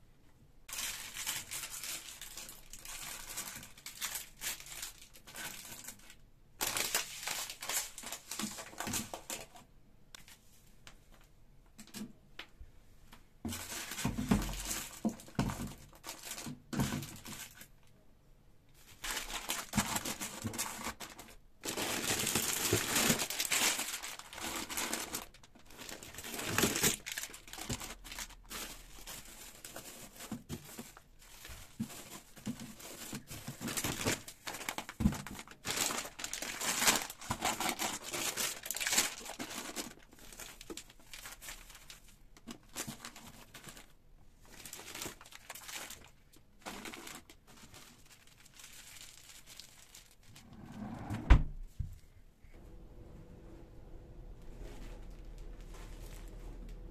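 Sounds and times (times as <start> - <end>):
plastic packaging crinkling: 0.7 - 9.6, 13.5 - 17.7, 18.8 - 50.4, 54.0 - 56.9.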